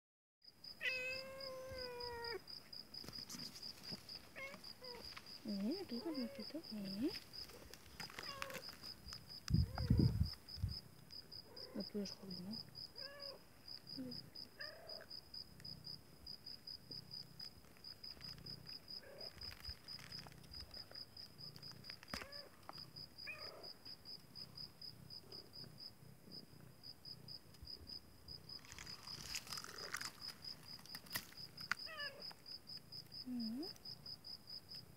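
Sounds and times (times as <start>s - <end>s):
cricket chirping: 0.5s - 34.9s
faint rustle: 1.5s - 16.0s, 16.9s - 27.6s, 28.3s - 33.9s.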